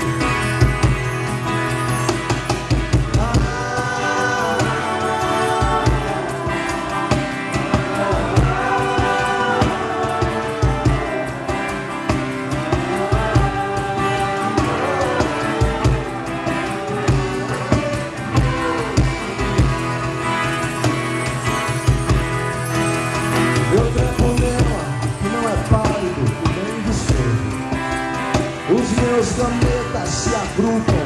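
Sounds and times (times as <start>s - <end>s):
live band music: 0.0s - 31.0s.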